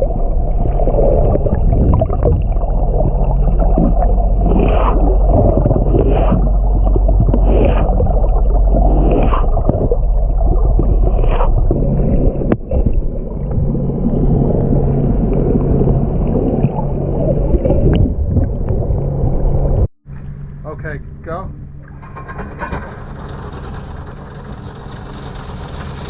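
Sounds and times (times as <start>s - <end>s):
water splashing along boat hull: 0.0s - 19.8s, 21.8s - 26.0s
low steady drone: 0.0s - 26.0s.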